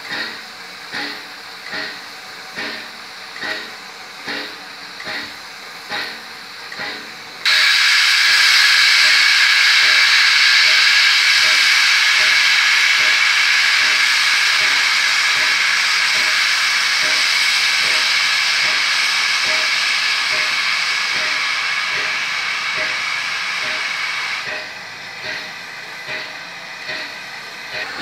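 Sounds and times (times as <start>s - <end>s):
steam locomotive venting steam: 0.0s - 28.0s.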